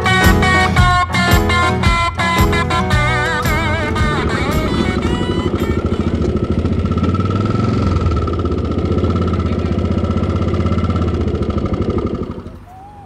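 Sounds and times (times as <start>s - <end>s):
motorcycle engine puttering: 0.2s - 12.7s.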